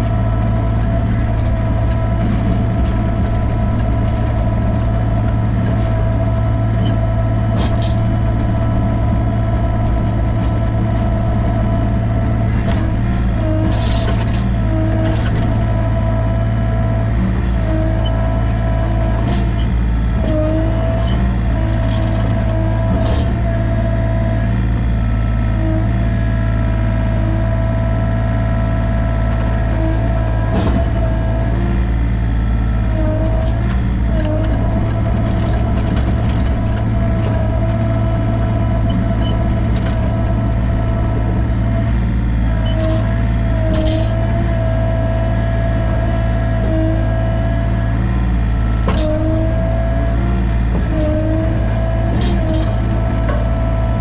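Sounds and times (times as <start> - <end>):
excavator diesel engine whining: 0.0 - 54.0.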